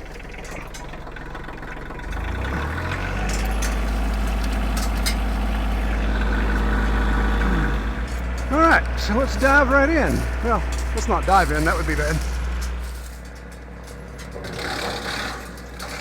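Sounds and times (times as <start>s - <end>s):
tractor diesel engine running: 0.0s - 16.0s
wood chipper drone: 0.0s - 16.0s.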